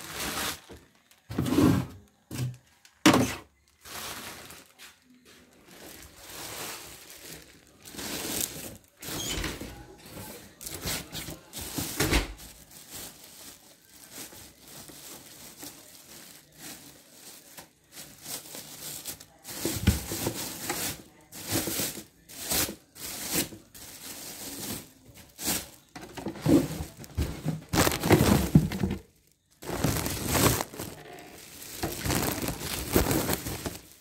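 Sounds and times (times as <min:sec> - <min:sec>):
plastic wrapping crinkling: 0:00.0 - 0:01.4, 0:02.0 - 0:34.0
cardboard packing rustling: 0:00.0 - 0:34.0.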